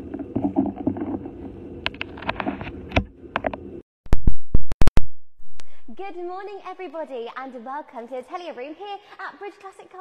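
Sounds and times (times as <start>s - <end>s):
steady hum: 0.0s - 9.2s.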